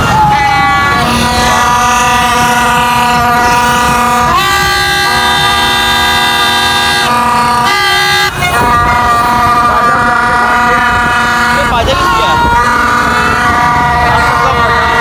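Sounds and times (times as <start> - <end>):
plastic toy trumpets blowing: 0.0 - 15.0.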